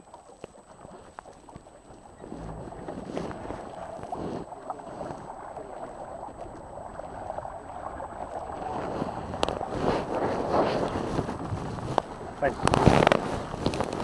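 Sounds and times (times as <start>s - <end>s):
water lapping against boat hull: 0.0s - 14.0s.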